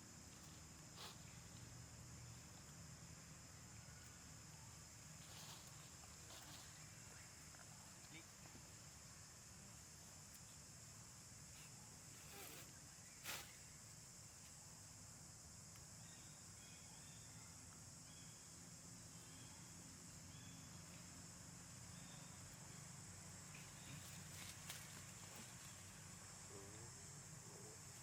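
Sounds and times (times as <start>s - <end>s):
high insect buzz: 0.0s - 28.0s.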